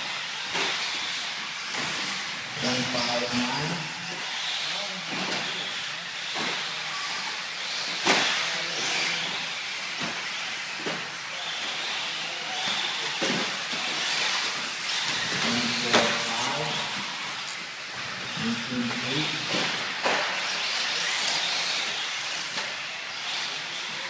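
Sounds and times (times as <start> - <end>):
rc truck motors whining: 0.0 - 24.0.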